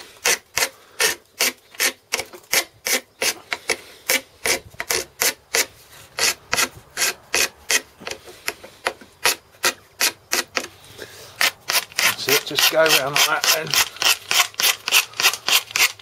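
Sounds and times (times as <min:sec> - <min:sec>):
hand rasp filing: 0:00.0 - 0:16.0.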